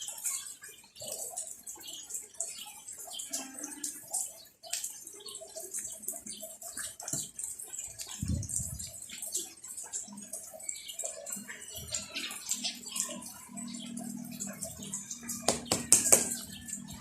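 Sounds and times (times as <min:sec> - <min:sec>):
rain drops ticking: 0:00.0 - 0:17.0.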